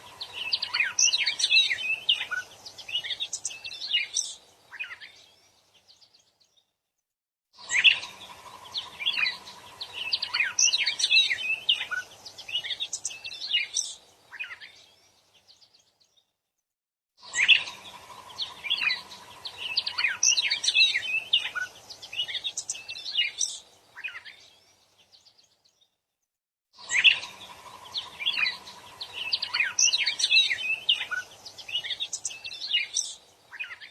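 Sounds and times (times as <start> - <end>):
songbird chattering song: 0.0 - 6.7, 7.6 - 16.3, 17.2 - 25.9, 26.8 - 33.9.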